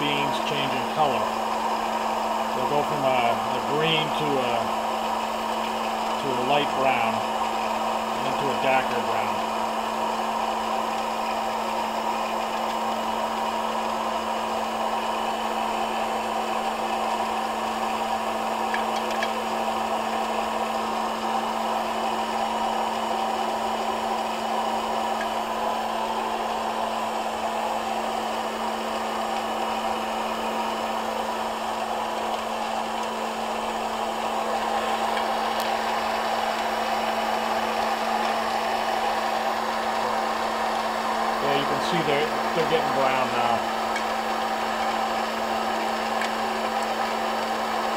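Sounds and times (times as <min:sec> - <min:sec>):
motor hum: 0:00.0 - 0:47.9
popcorn popper fan blowing: 0:00.0 - 0:47.9.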